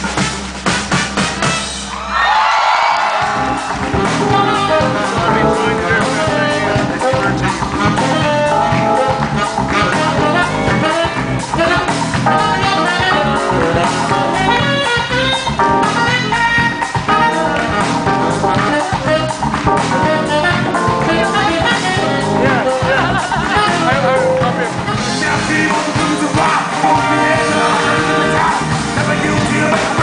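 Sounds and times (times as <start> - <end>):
brass horns playing melody: 3.4 - 30.0.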